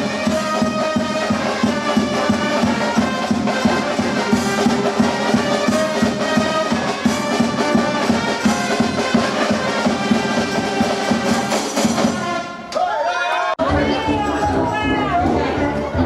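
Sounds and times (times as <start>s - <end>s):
brass band playing: 0.0s - 12.7s, 13.6s - 16.0s.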